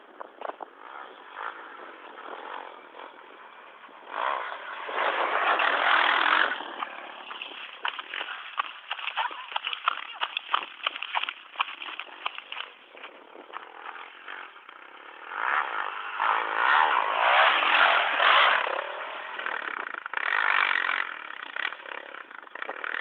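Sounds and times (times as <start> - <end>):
motocross bike engine revving: 0.6 - 23.0.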